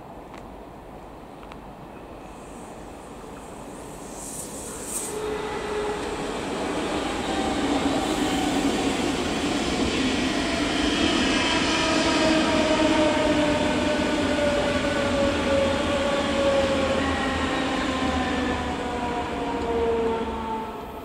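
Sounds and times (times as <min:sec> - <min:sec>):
train rail and wheel rumble: 0:00.0 - 0:21.0.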